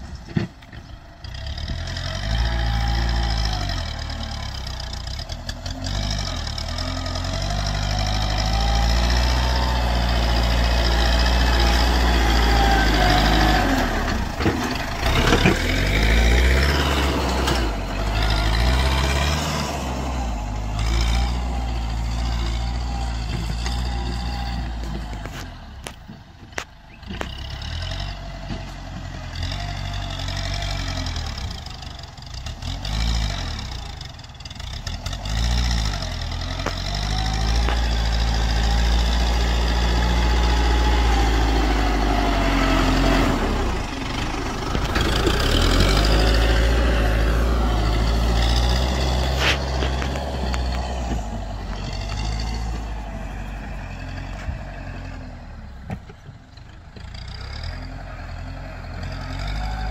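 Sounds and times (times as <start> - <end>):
blade pushing soil: 0.0 - 34.0, 34.6 - 56.2
tractor engine under load: 0.0 - 59.9.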